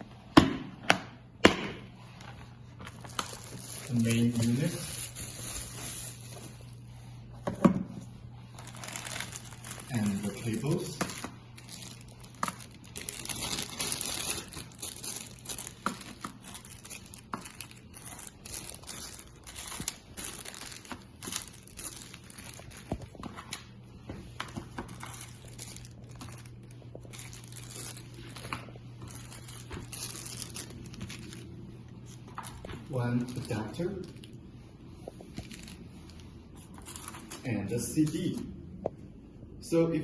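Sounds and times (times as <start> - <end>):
plastic packaging crinkling: 2.0 - 7.2, 8.3 - 38.4.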